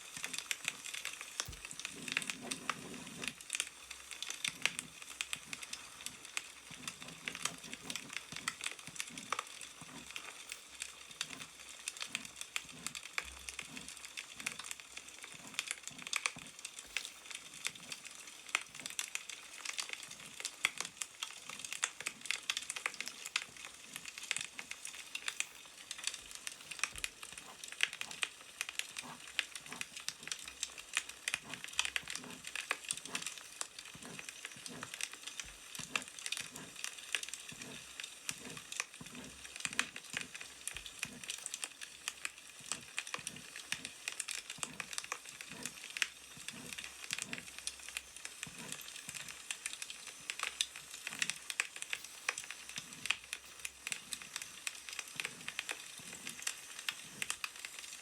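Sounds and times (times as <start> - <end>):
crackling wood fire: 0.0 - 58.0.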